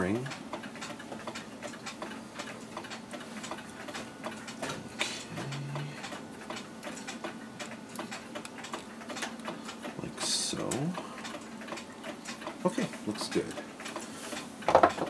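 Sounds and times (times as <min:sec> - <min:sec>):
clockwork ticking: 0:00.0 - 0:04.6, 0:05.5 - 0:14.7.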